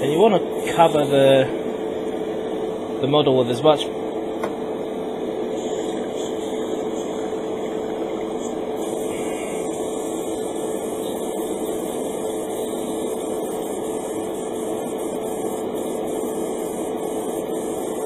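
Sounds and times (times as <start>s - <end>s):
airbrush motor hum: 0.0s - 3.0s, 5.0s - 18.0s.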